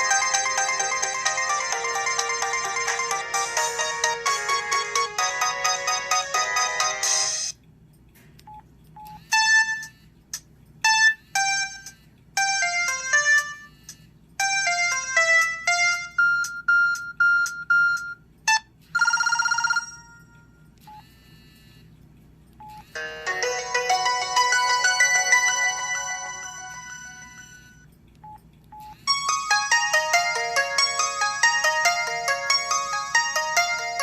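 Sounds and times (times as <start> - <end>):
phone ringtone melody: 0.0 - 7.6, 9.2 - 10.0, 10.8 - 13.8, 14.4 - 20.7, 23.0 - 27.8, 28.8 - 34.0.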